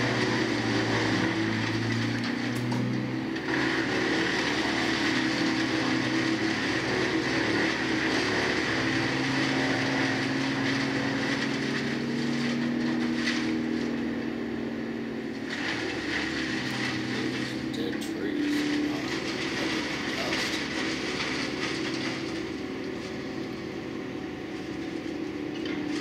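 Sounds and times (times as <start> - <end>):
chipping noise: 0.0 - 14.2, 15.3 - 26.0
wood chipper engine drone: 0.0 - 26.0.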